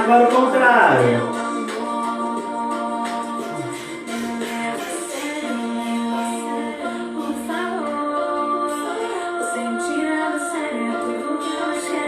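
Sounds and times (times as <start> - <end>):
woman singing long held notes: 1.0 - 12.0.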